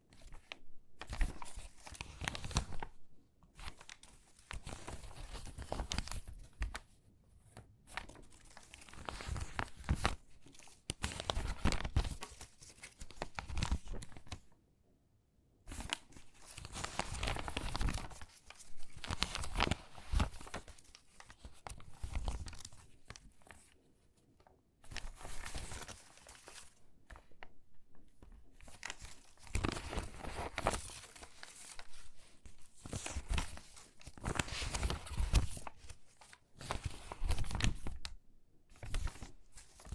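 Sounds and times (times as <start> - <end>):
magazine pages crinkling: 1.0 - 3.0, 3.6 - 6.9, 7.9 - 14.4, 15.7 - 23.7, 24.9 - 27.6, 28.2 - 38.1, 38.7 - 39.9.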